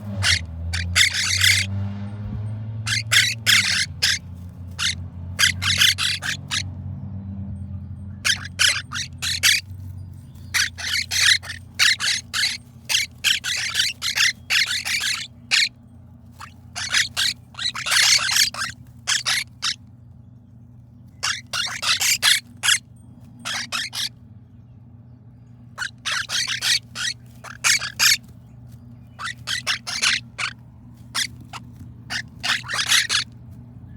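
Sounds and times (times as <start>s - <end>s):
parakeet chicks raspy calls: 0.0s - 2.0s, 2.8s - 6.7s, 8.1s - 24.4s, 25.4s - 33.9s
steady low hum: 0.0s - 33.9s.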